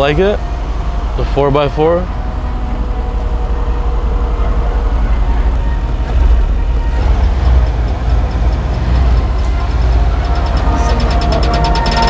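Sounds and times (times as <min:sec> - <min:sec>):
vehicle engine rumbling past: 0:00.0 - 0:12.0.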